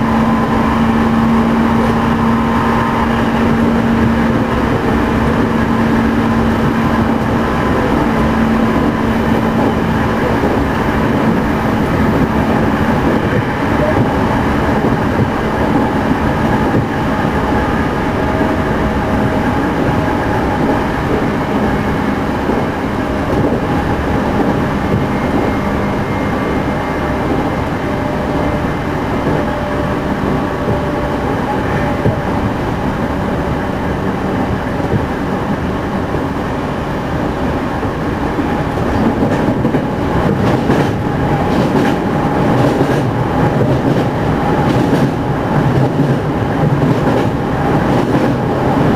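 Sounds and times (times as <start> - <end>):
clickety-clack of rail joints: 0.0 - 36.4, 38.2 - 48.9
train wheel and rail noise: 0.0 - 48.9.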